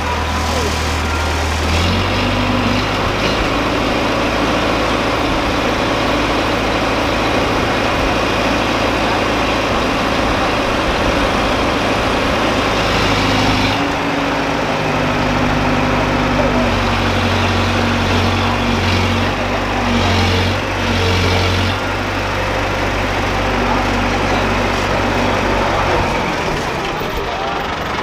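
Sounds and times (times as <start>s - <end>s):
diesel crane engine running: 0.0s - 28.0s.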